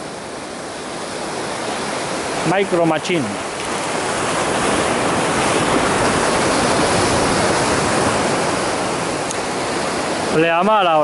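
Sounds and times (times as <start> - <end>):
surf breaking over rocks: 0.0 - 11.0.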